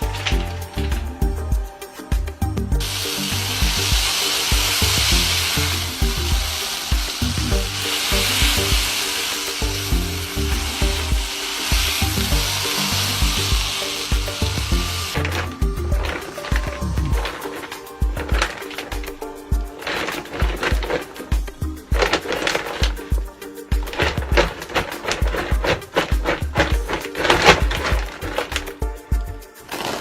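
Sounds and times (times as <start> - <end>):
background music with low beat: 0.0 - 30.0
sizzling hiss: 0.0 - 30.0.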